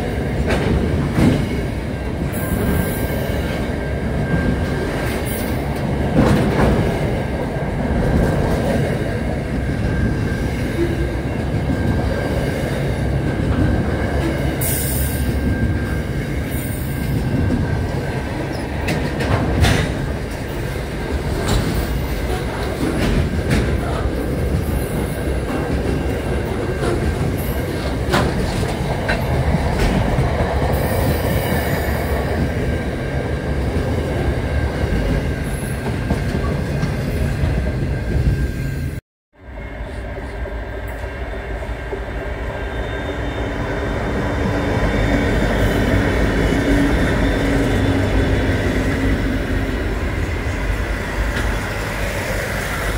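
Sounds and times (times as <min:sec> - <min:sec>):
freight train rumbling on rails: 0:00.0 - 0:52.9.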